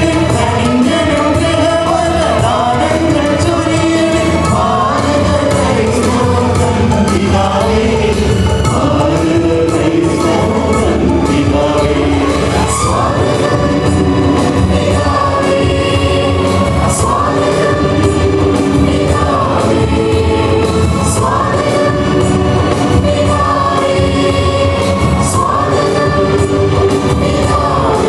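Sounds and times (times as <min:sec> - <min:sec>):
mixed choir singing: 0:00.0 - 0:28.0.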